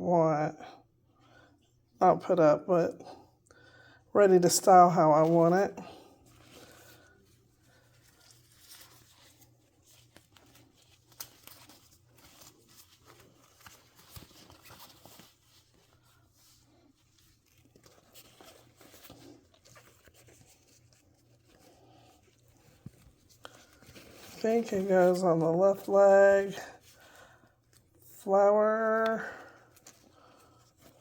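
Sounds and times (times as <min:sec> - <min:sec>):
fabric rustling: 0:04.6 - 0:31.0.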